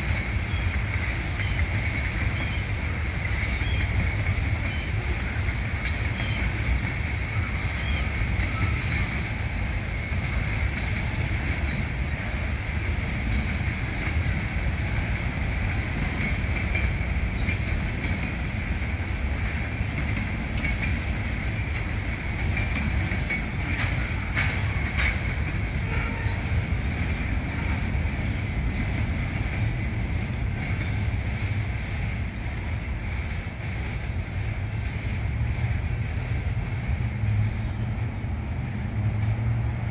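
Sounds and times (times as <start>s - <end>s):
freight train cars rolling: 0.0s - 39.9s.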